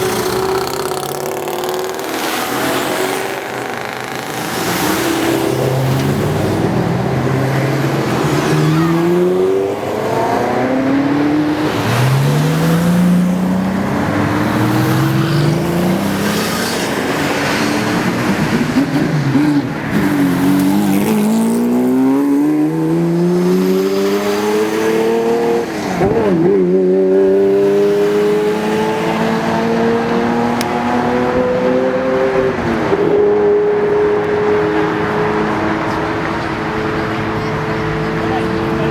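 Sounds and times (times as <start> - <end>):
sports car engines accelerating: 0.0 - 38.9.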